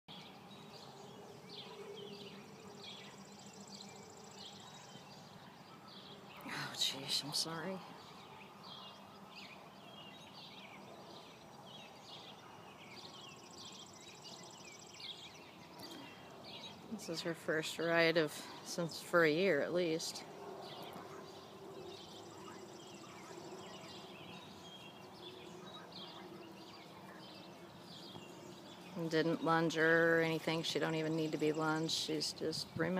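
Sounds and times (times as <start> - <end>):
birds chirping: 0.1 - 32.9.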